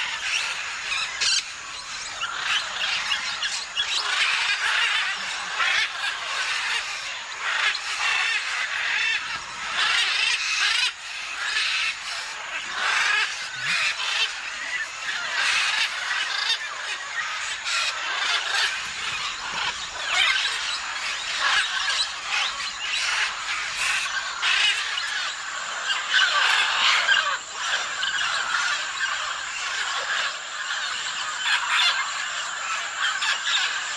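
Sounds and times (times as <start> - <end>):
parrots squawking: 0.0 - 33.9.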